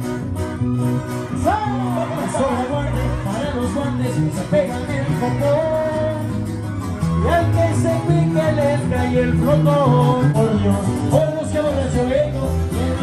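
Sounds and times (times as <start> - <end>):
guitars: 0.0 - 13.0
live band playing: 0.0 - 13.0.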